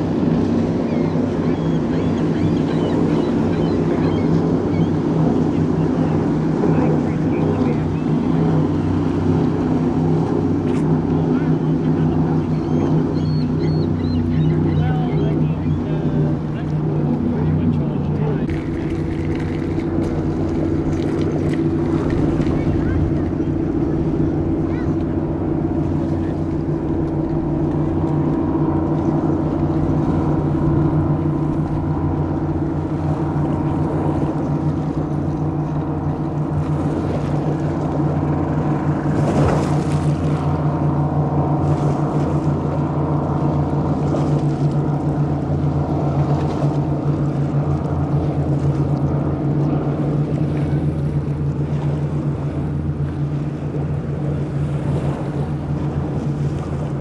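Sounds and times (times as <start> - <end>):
boat engine drone: 0.0 - 57.0
water rushing from hull: 0.0 - 57.0.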